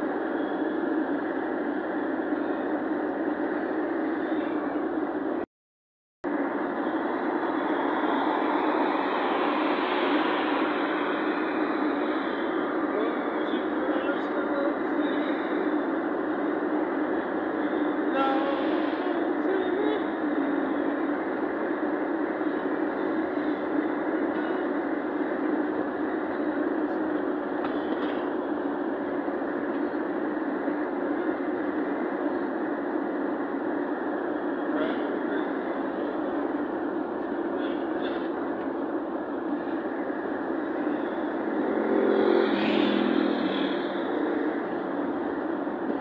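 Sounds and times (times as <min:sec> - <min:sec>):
road and engine noise inside car: 0:00.0 - 0:05.5, 0:06.3 - 0:46.0.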